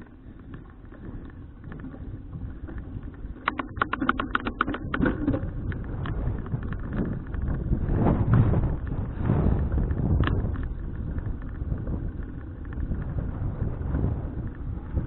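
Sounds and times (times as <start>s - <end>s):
bicycle road rumble: 0.0s - 15.0s
sharp bicycle clicks: 0.0s - 15.0s
wind noise: 0.0s - 15.0s.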